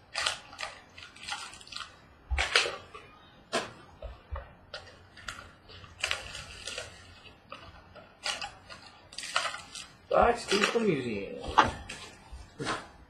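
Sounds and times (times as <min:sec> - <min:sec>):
card packs clicking and rustling: 0:00.0 - 0:03.8, 0:04.7 - 0:12.9.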